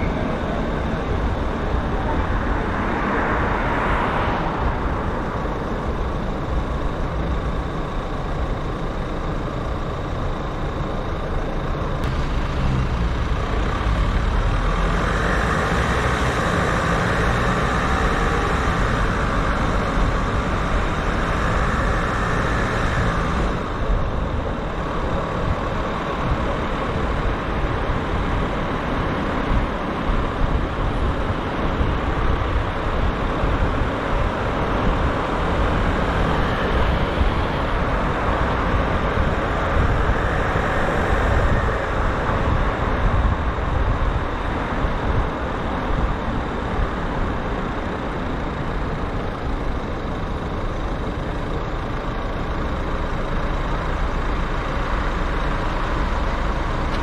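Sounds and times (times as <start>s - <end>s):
rumble of tyres and engines: 0.0s - 57.0s.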